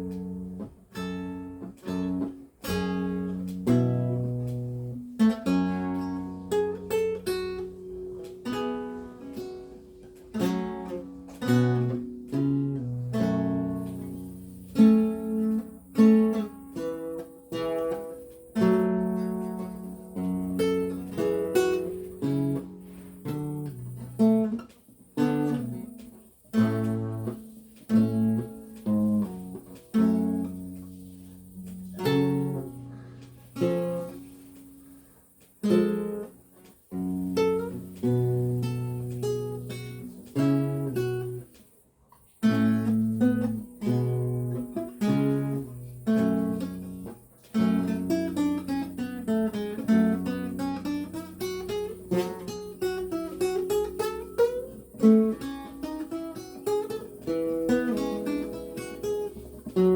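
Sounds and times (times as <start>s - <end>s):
solo lute playing: 0.0s - 35.0s, 35.6s - 41.5s, 42.4s - 59.9s.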